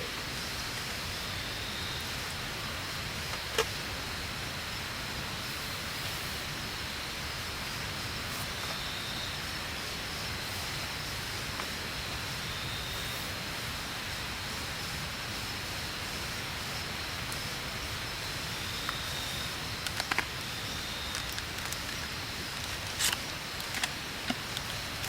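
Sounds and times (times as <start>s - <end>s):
even hiss: 0.0s - 25.0s.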